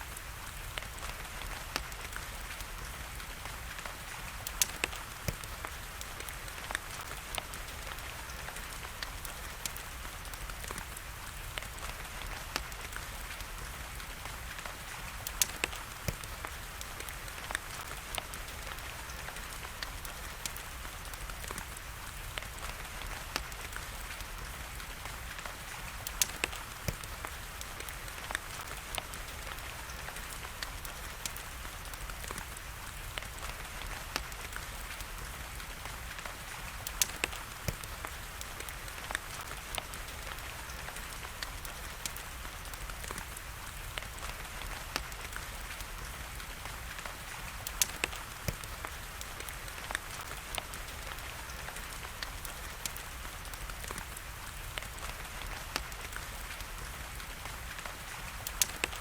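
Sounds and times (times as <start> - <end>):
steady rain hiss: 0.0 - 59.0
wood fire crackling: 0.0 - 59.0.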